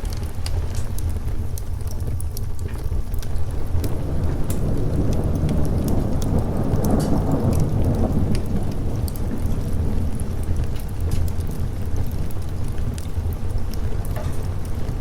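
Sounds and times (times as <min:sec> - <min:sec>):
steady rain: 0:00.0 - 0:15.0
wood fire crackling: 0:00.0 - 0:15.0
thunder rolling: 0:02.6 - 0:15.0.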